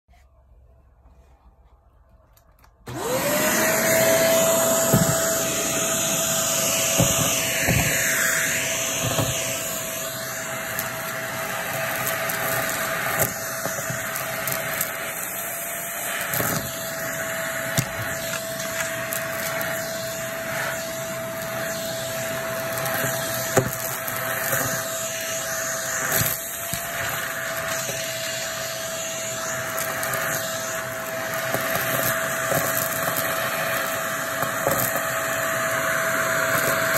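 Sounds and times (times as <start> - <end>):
vacuum cleaner motor whining: 2.5 - 36.9.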